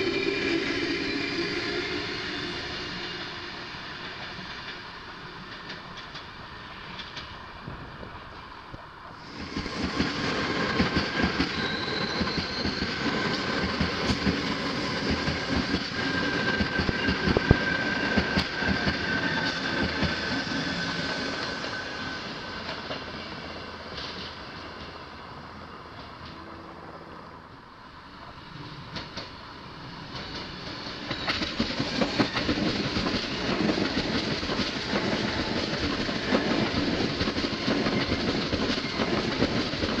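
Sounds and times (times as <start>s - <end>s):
train wheels rumbling and clacking: 0.0s - 8.5s, 9.3s - 25.0s, 28.2s - 40.0s.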